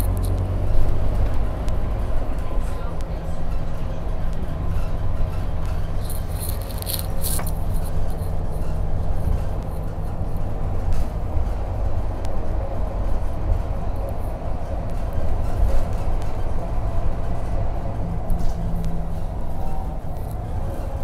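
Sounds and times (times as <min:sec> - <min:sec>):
bus engine hum: 0:00.0 - 0:21.0
road rumble: 0:00.0 - 0:21.0.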